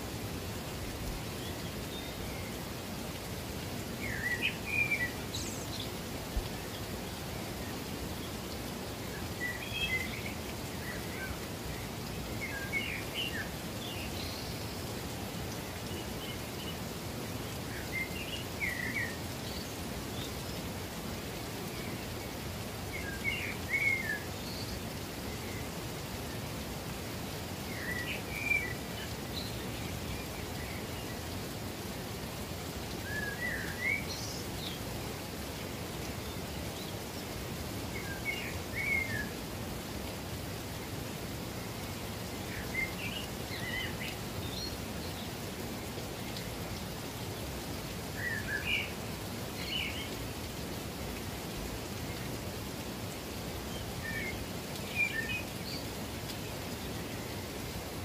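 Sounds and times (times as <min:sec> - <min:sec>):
songbird chirping: 0:00.0 - 0:58.0
waterfall rushing: 0:00.0 - 0:58.0.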